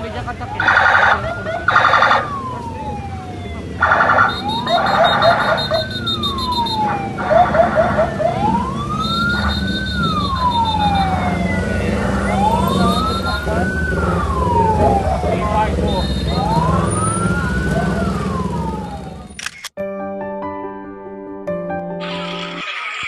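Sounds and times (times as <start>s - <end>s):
sirens wailing: 0.0s - 19.4s
siren blasts and yelps: 0.0s - 19.5s
engines rumbling: 0.0s - 19.7s.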